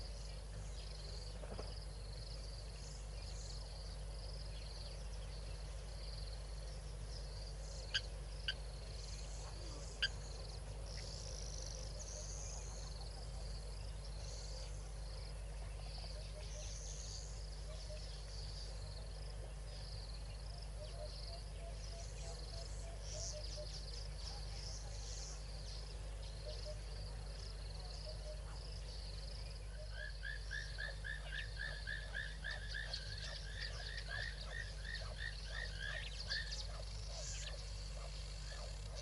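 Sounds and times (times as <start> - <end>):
insects and birds chirping: 0.0 - 39.0
steady low hum: 0.0 - 39.0.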